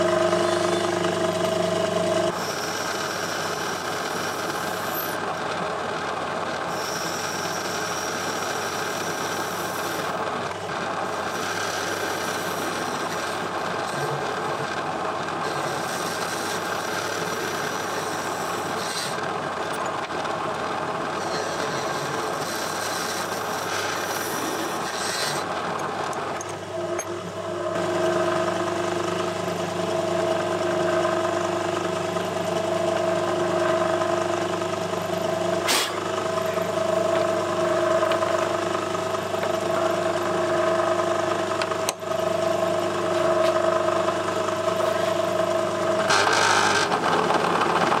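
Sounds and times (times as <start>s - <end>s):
lathe hum with high whine: 0.0s - 48.0s
metal lathe machining: 0.0s - 48.0s.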